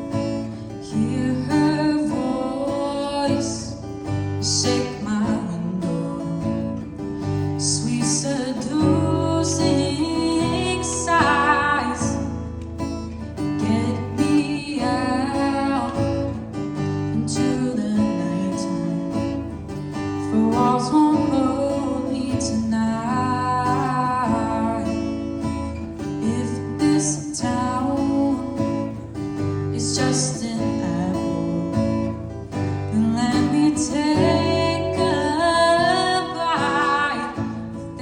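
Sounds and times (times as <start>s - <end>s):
woman singing: 0.0s - 12.6s, 13.4s - 38.0s
strummed acoustic guitar: 0.0s - 38.0s.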